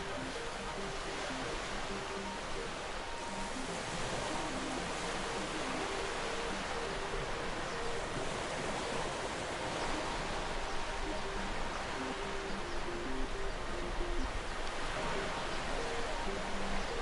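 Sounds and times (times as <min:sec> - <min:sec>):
sea waves and surf: 0:00.0 - 0:17.0
soft slow melody: 0:00.0 - 0:17.0.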